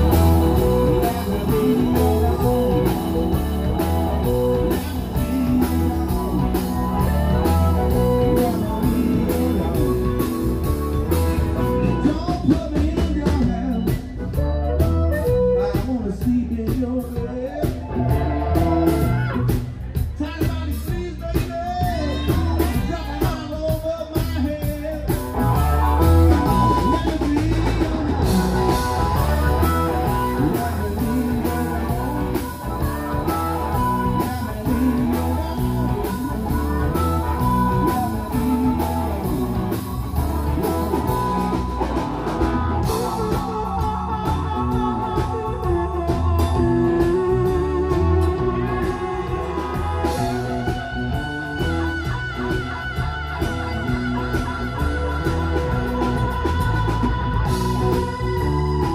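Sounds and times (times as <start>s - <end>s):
drum and bass groove: 0.0s - 58.9s
lead guitar: 0.0s - 58.9s.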